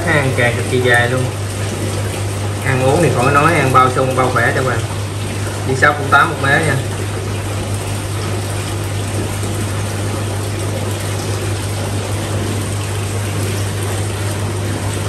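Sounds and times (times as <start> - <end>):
water pump humming: 0.0 - 15.0
water rushing and splashing: 0.0 - 15.0.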